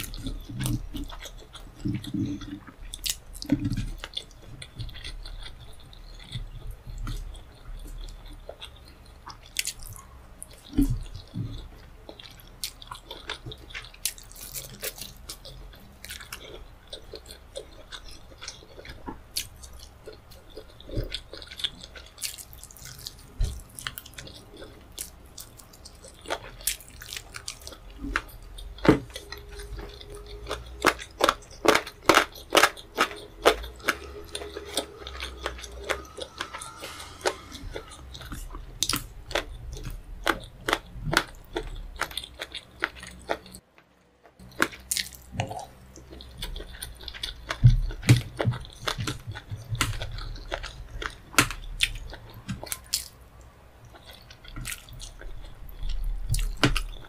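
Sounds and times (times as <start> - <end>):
wet chewing: 0.0 - 57.0.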